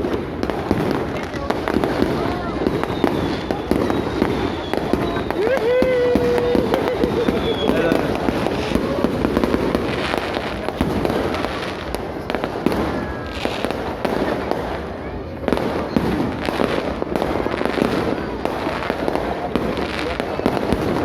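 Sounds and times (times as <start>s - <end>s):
crowd voices: 0.0s - 21.0s
fireworks bangs and pops: 0.0s - 21.0s.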